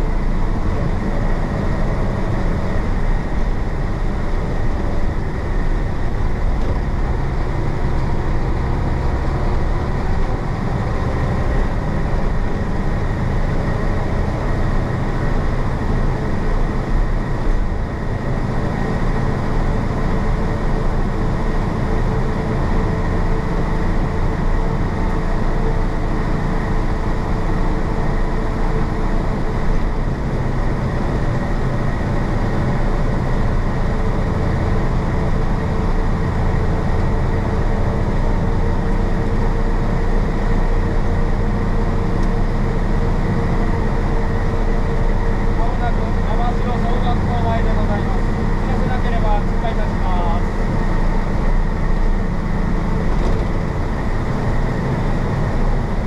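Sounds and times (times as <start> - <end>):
diesel bus engine running: 0.0 - 56.0
road noise: 0.0 - 56.0.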